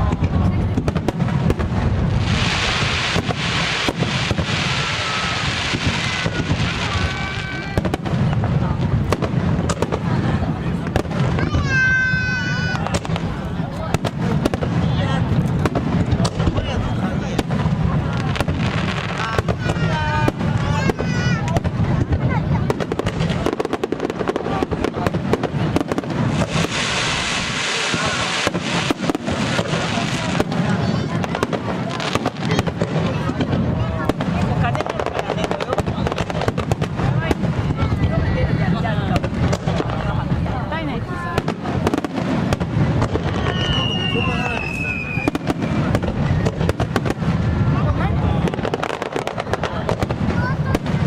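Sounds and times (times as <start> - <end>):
fireworks crackling hiss: 0.0 - 51.0
fireworks sharp bangs: 0.0 - 51.0.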